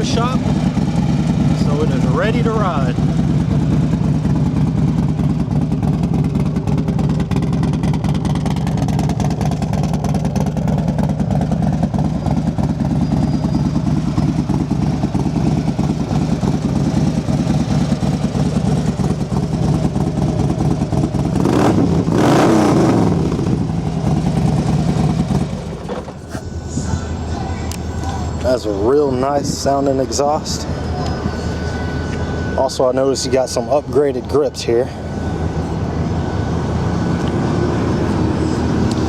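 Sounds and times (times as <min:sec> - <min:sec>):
motorcycle engine revving: 0:00.0 - 0:34.4
motorcycle engine idling: 0:00.0 - 0:39.0.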